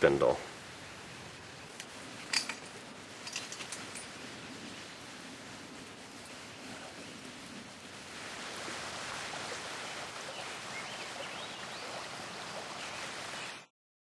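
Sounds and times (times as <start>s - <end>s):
stream water rushing: 0.0s - 13.7s.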